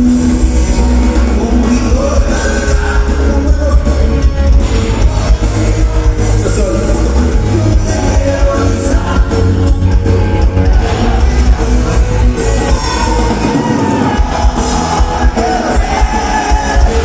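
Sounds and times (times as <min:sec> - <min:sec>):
live band music with heavy bass: 0:00.0 - 0:17.0
person singing: 0:00.0 - 0:17.0.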